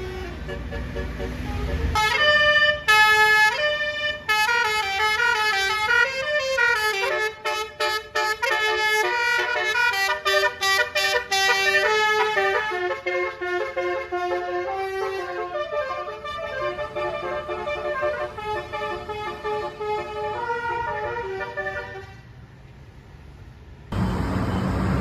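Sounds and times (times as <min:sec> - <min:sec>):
musical air horn playing a tune: 0:00.0 - 0:22.2.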